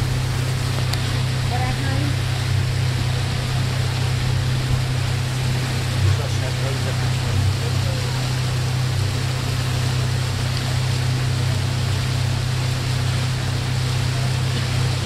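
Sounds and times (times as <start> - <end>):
boat engine humming: 0.0 - 15.0
water rushing past hull: 0.0 - 15.0.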